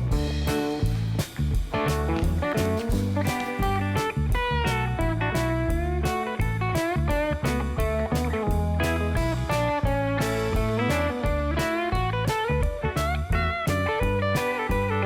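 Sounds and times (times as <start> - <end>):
bass: 0.0 - 15.0
electric guitar with bent notes: 0.0 - 15.0
steady beat: 0.0 - 15.0.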